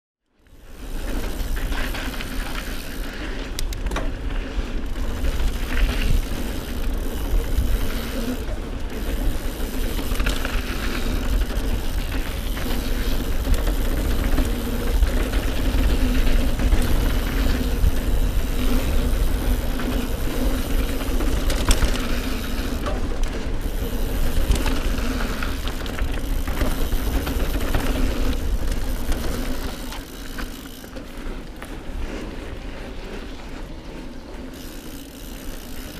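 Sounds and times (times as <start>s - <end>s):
bike rattling: 0.4s - 35.9s
knobbly tyres rolling over dirt: 0.4s - 35.9s
wind rumbling on microphone: 0.6s - 30.0s.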